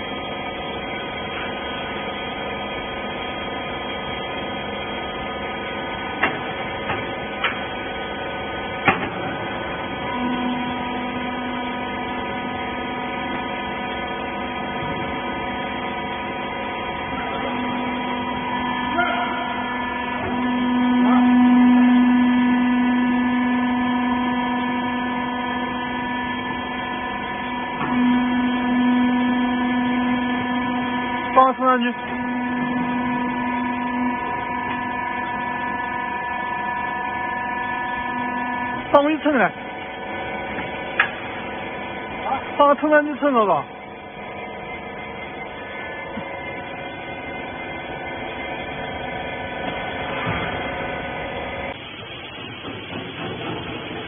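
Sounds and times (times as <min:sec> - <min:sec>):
hydraulic pump humming: 0:00.0 - 0:54.0.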